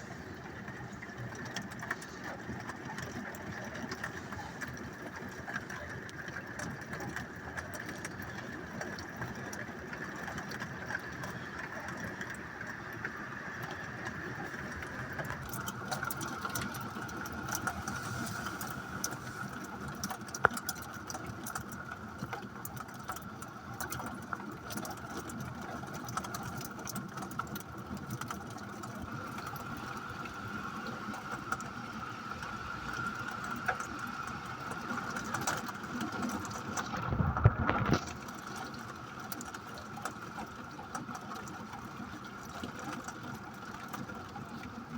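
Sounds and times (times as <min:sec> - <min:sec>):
rain ticking: 0:00.0 - 0:44.9.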